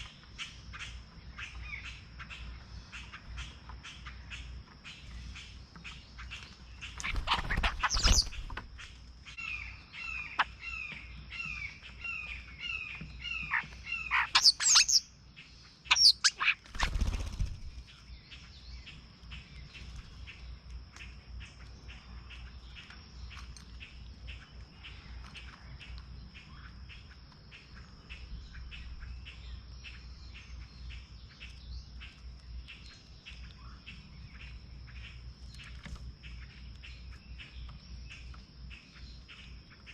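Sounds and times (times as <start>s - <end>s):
songbirds calling and chirping: 0.0s - 39.9s.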